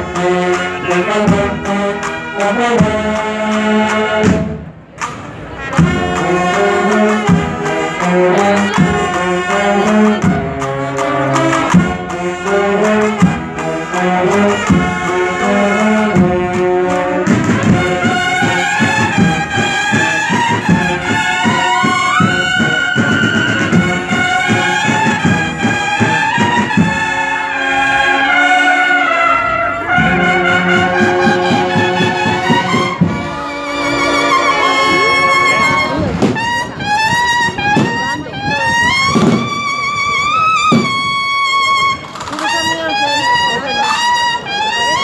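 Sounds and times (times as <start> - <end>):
drum strokes: 0.0 - 27.4, 29.4 - 44.0
brass band playing a march: 0.0 - 45.0
trumpet melody: 0.0 - 45.0.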